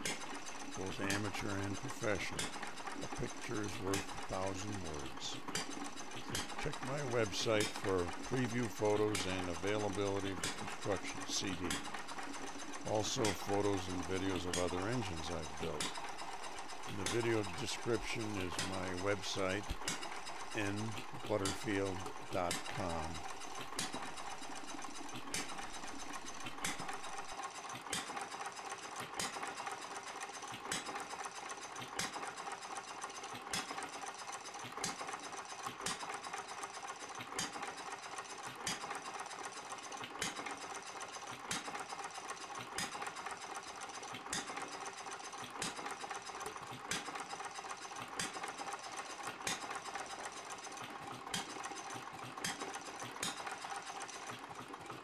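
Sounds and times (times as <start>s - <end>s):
model engine clattering: 0.0s - 55.0s.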